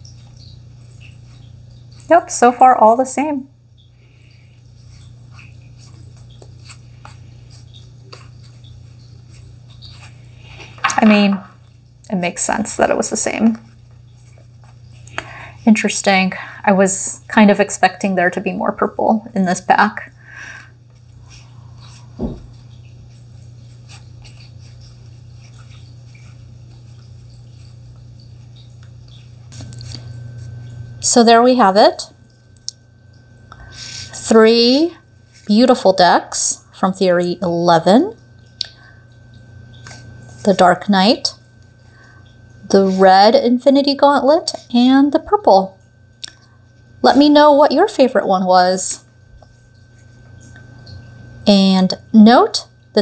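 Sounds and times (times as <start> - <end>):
low hum: 0.0 - 53.0.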